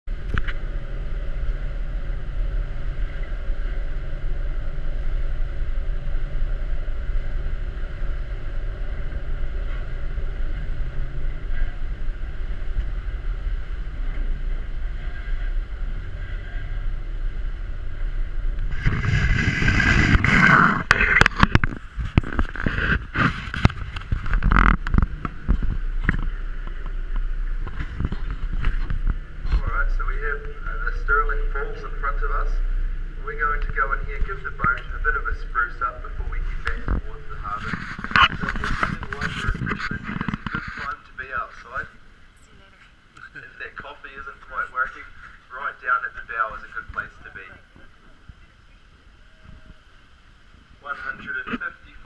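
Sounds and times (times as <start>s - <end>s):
wind buffeting microphone: 0.1s - 42.8s, 46.9s - 51.4s
boat engines droning: 0.1s - 52.0s.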